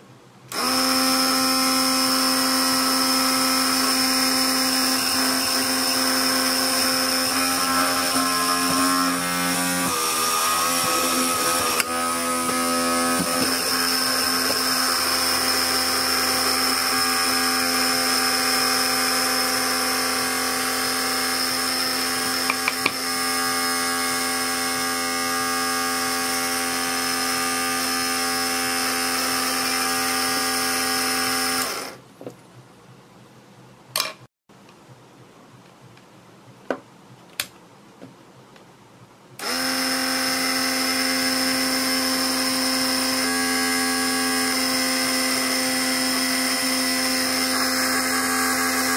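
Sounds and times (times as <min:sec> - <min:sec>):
small motor drill whining: 0:00.5 - 0:32.0, 0:39.4 - 0:48.9.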